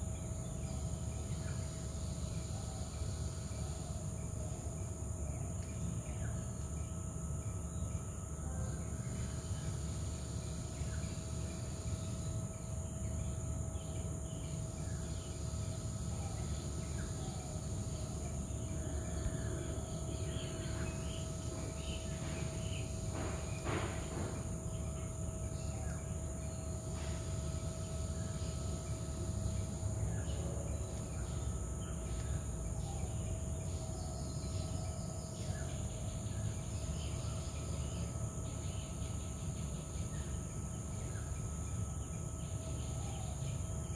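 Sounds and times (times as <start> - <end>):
faint steady hum: 0.0 - 43.9
high-pitched insect drone: 0.0 - 43.9.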